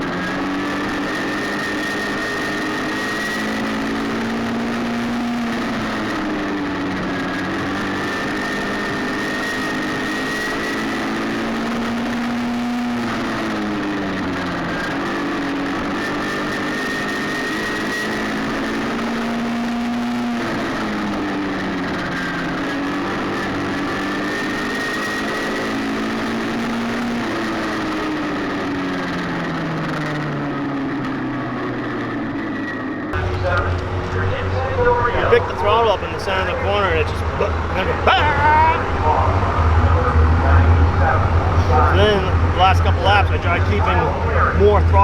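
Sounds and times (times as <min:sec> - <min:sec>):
racing car engine revving: 0:00.0 - 0:45.0.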